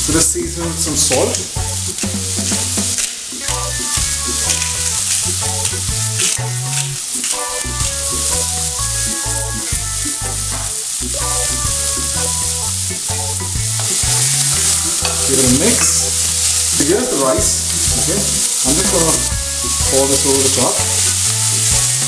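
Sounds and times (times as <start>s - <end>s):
low tune playing: 0.0s - 22.0s
vegetables sizzling in hot oil: 0.0s - 22.0s.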